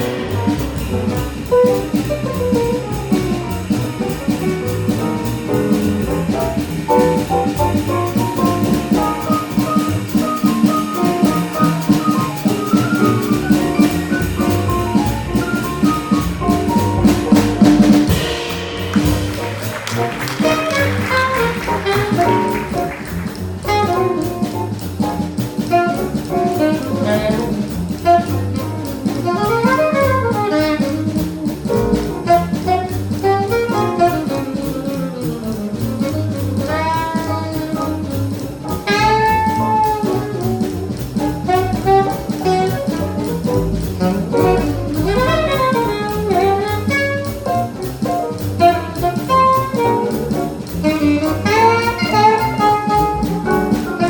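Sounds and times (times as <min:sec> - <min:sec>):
jazz combo playing: 0:00.0 - 0:54.0.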